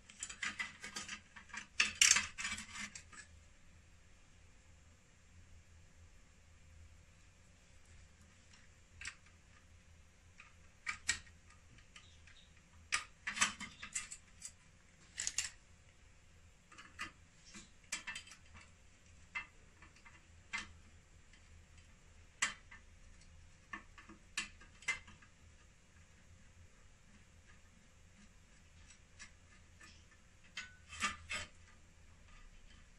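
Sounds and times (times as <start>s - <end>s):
light clicks and knocks of handling parts: 0.0s - 3.4s, 7.7s - 32.9s.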